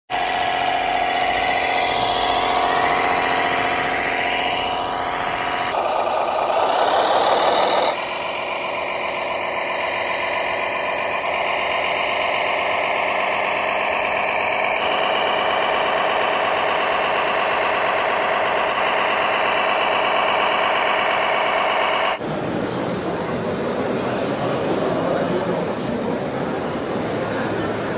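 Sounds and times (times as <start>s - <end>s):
model tractor engines droning: 0.1s - 27.9s.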